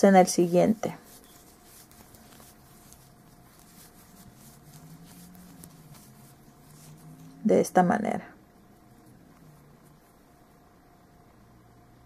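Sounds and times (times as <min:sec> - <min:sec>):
low room hiss: 0:00.0 - 0:12.0.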